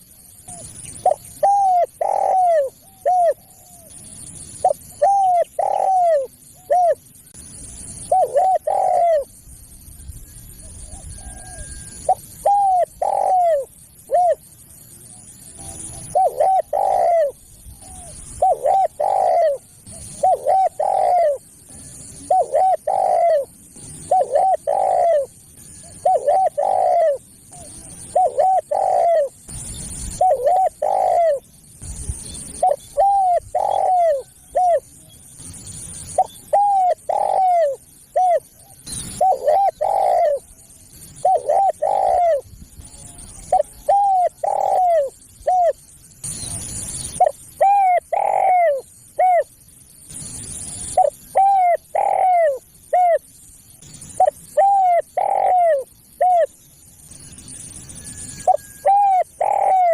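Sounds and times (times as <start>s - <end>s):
dove cooing: 0.0s - 7.1s, 8.0s - 9.4s, 10.5s - 14.5s, 15.1s - 31.5s, 32.4s - 35.0s, 36.0s - 45.8s, 46.5s - 49.5s, 50.2s - 53.2s, 54.0s - 56.6s, 58.0s - 59.9s.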